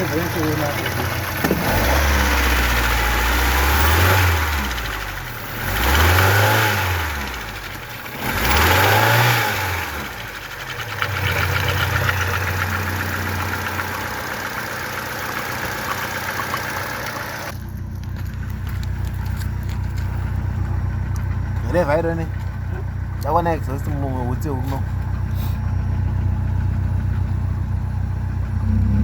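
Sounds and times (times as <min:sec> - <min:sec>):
car engine revving and idling: 0:00.0 - 0:29.0.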